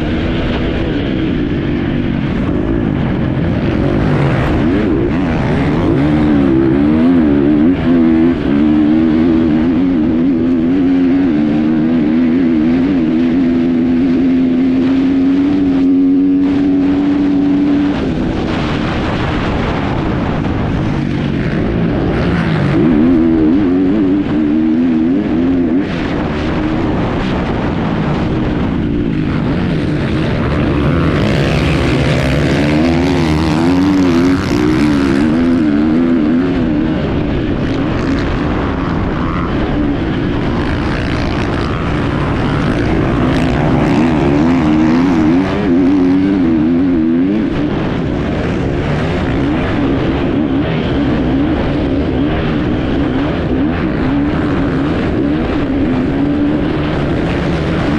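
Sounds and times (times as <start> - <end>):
dirt bike engine revving: 0.0 - 57.9
steady rushing noise: 0.0 - 57.9.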